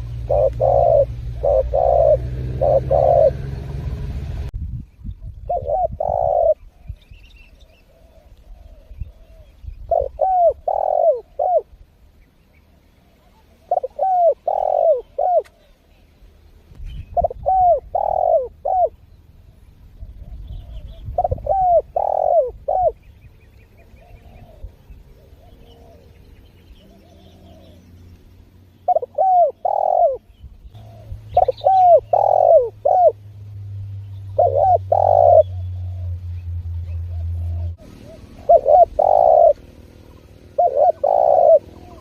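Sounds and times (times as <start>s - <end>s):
dove cooing: 0.0s - 4.2s, 5.5s - 7.0s, 7.6s - 11.8s, 13.0s - 15.8s, 17.1s - 27.9s, 28.8s - 33.3s, 34.2s - 42.0s
low steady hum: 0.0s - 42.0s.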